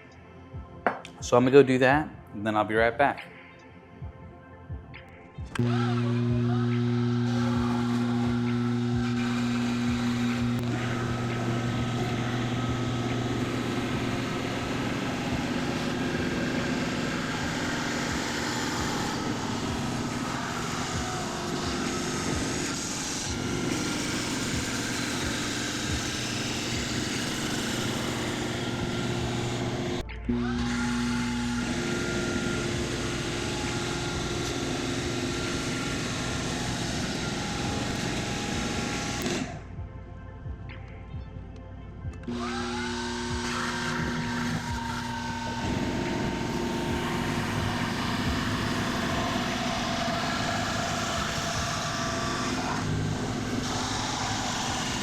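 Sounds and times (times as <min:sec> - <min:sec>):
milling machine motor hum: 0:05.5 - 0:39.6, 0:42.2 - 0:55.0
milling bit cutting plywood: 0:05.6 - 0:39.6, 0:42.2 - 0:55.0.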